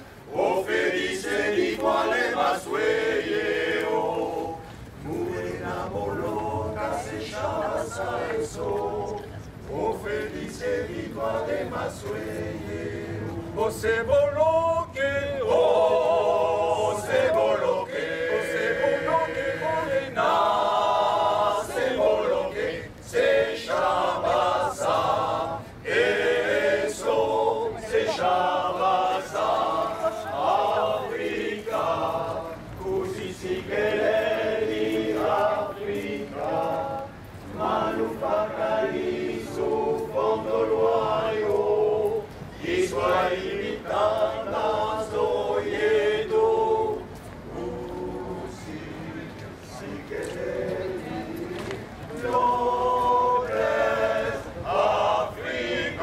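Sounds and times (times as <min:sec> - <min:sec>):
male choir singing a cappella: 0:00.0 - 0:56.0.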